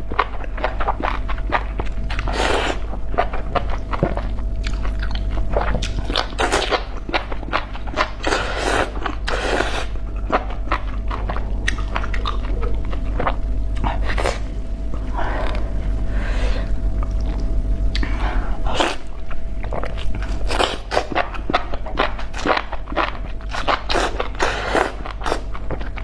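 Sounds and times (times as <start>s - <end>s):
chewing crunchy food: 0.0s - 16.0s, 16.7s - 26.0s
steady low hum: 0.0s - 26.0s.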